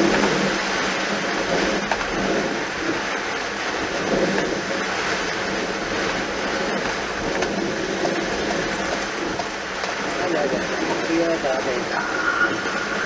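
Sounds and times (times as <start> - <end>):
rain: 0.0 - 13.0
rushing water: 0.0 - 13.0.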